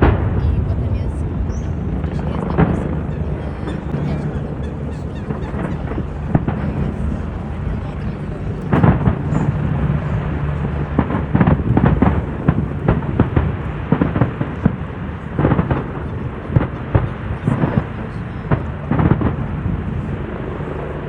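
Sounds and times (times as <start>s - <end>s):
fireworks banging: 0.0s - 21.0s
low rumble: 0.0s - 21.0s.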